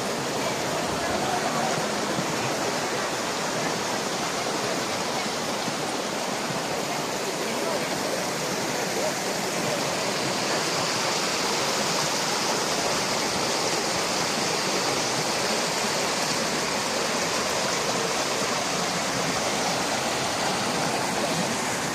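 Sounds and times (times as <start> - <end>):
flowing water rushing: 0.0 - 21.9.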